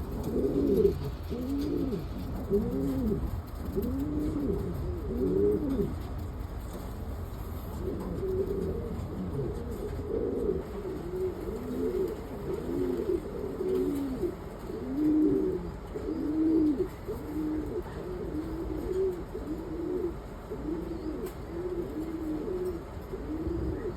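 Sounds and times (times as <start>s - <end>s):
pigeons cooing: 0.0s - 6.6s, 7.7s - 23.9s.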